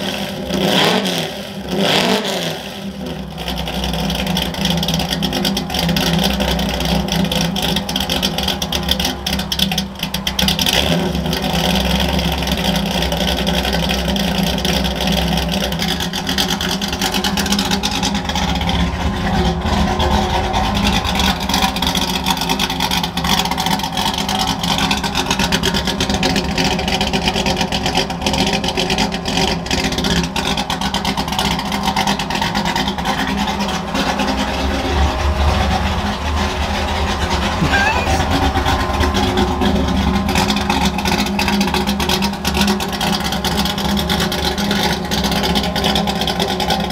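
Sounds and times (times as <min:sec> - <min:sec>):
truck engine idling and revving: 0:00.0 - 0:46.9.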